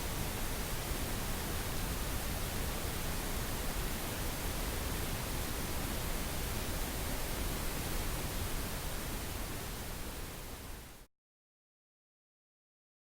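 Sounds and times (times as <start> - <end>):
pink noise hiss: 0.0 - 11.1.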